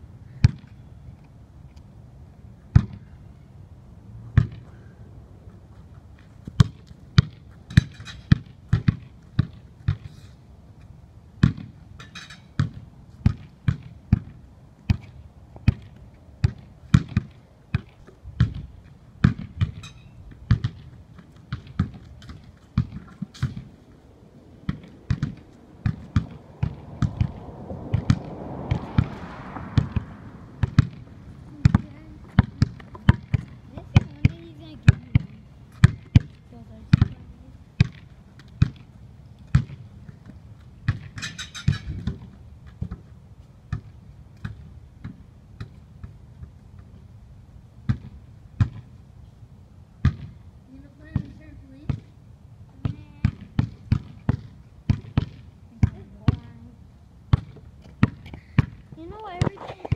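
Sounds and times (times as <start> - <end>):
basketballs bouncing on hard ground: 0.3 - 0.8, 2.6 - 3.2, 4.3 - 4.8, 5.6 - 10.2, 10.8 - 24.0, 24.6 - 47.1, 47.8 - 49.0, 50.0 - 50.4, 51.0 - 56.7, 57.3 - 59.9.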